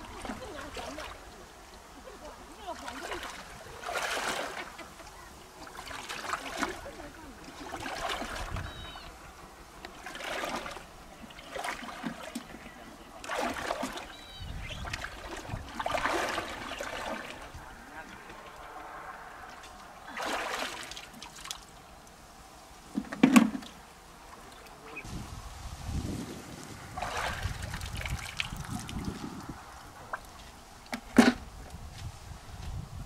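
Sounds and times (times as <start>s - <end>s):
person wading through river water: 0.0s - 22.6s, 26.6s - 30.9s.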